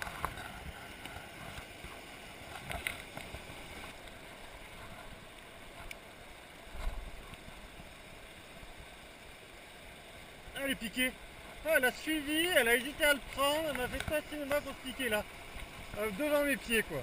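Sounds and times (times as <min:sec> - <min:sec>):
river rushing over stones: 0:00.0 - 0:17.0.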